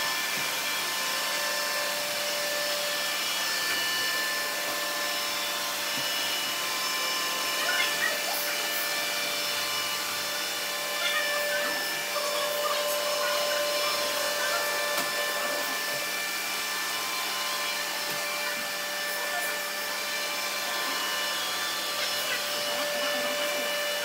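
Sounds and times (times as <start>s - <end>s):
robot vacuums humming and whining: 0.0s - 24.0s.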